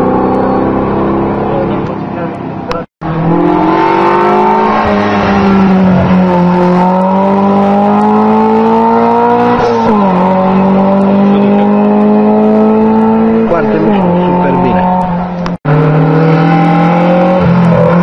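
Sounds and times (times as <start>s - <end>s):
race car engine accelerating: 0.0s - 18.0s.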